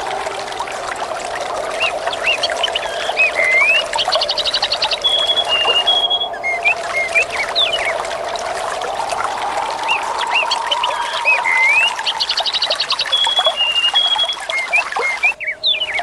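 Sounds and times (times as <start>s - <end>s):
water trickling: 0.0s - 16.0s
songbirds chirping and whistling: 1.6s - 16.0s.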